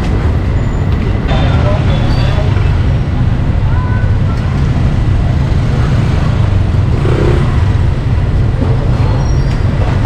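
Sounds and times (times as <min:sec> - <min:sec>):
passing traffic rumble: 0:00.0 - 0:10.0
street din: 0:00.0 - 0:10.0.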